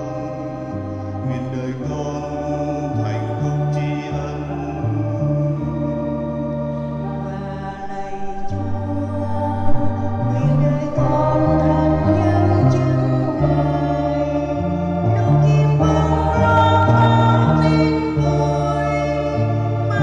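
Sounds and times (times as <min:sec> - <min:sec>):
choir singing a hymn: 0:00.0 - 0:20.0
organ with stepping bass line: 0:00.0 - 0:20.0.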